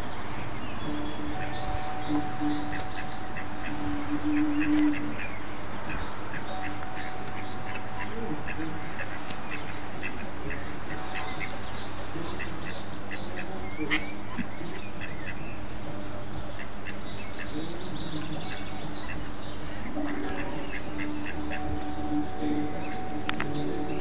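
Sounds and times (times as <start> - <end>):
ducklings peeping: 0.0 - 24.0
steady background noise: 0.0 - 24.0.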